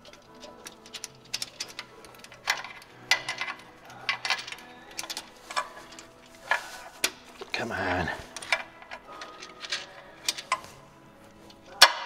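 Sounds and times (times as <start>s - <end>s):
wrench clinking on engine parts: 0.0s - 10.8s.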